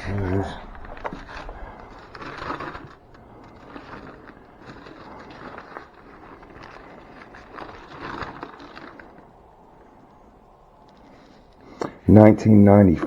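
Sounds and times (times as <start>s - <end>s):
papers rustling and scraping: 0.0s - 12.1s
faint clicks: 0.0s - 12.2s.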